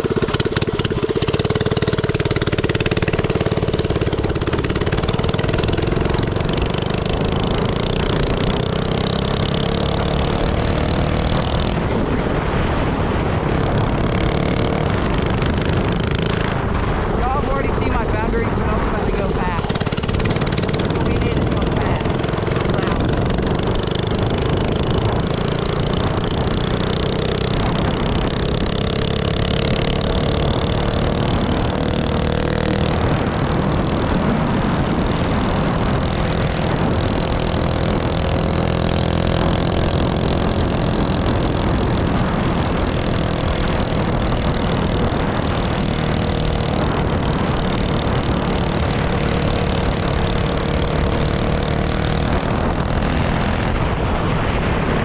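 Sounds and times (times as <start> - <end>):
minibike engine running: 0.0 - 55.0.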